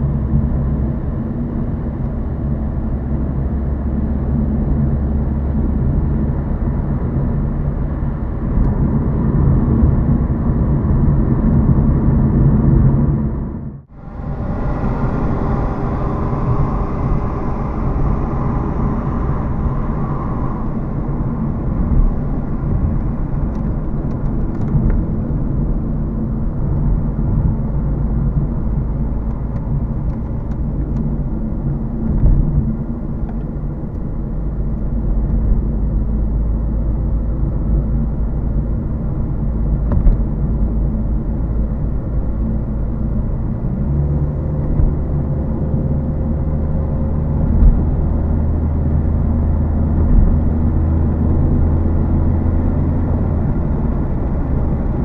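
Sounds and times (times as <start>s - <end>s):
car engine hum: 0.0s - 55.0s.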